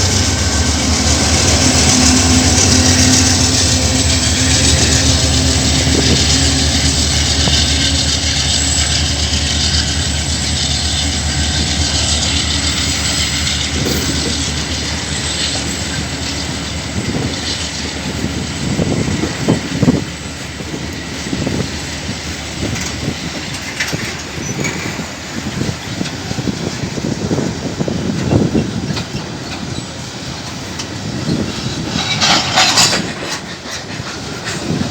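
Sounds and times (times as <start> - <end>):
freight wagons clacking over rail joints: 0.0 - 34.9
locomotive engine drone: 0.0 - 34.9.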